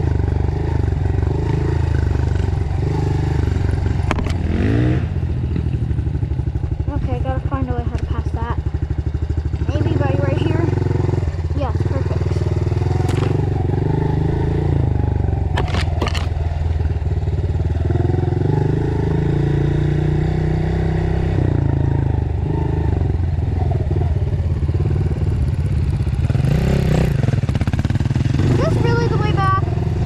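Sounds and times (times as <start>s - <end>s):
dirt bike engine: 0.0s - 30.0s.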